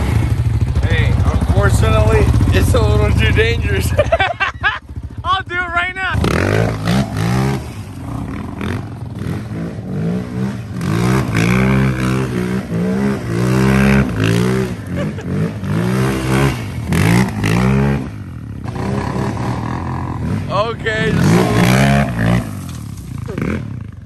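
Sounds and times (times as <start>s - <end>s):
pit bike engine revving: 0.0s - 24.0s.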